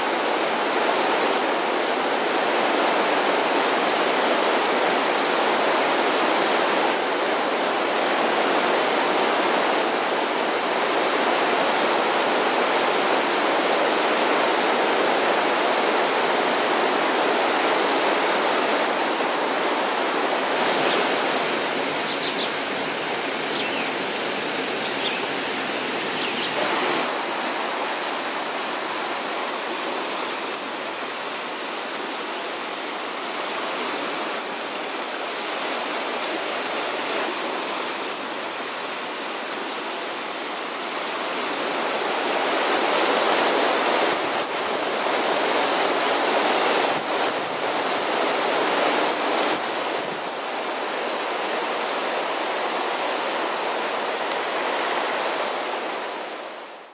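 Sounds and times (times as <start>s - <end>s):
water rushing over rocks: 0.0s - 56.9s.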